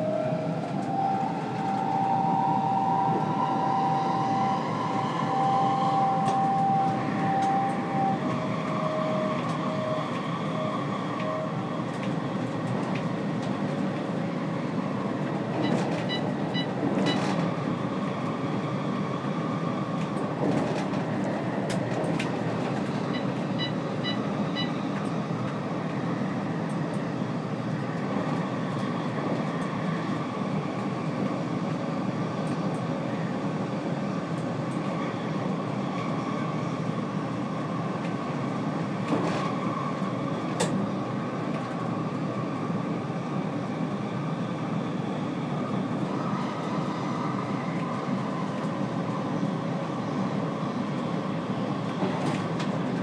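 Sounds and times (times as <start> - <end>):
metro train rumbling: 0.0 - 53.0.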